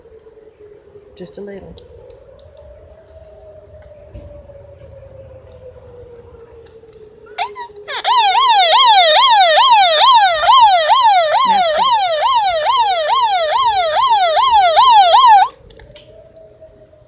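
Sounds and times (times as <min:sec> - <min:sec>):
electronic siren sweeping tone: 0:00.0 - 0:17.0.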